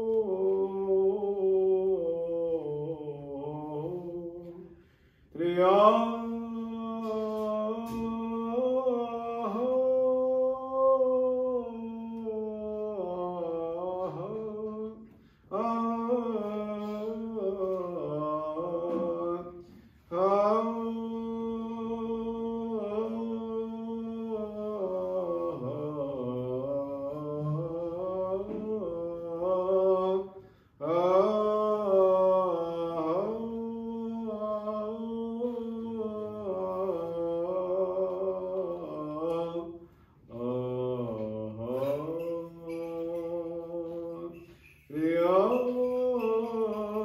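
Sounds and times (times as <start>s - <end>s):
man chanting: 0.0s - 47.0s.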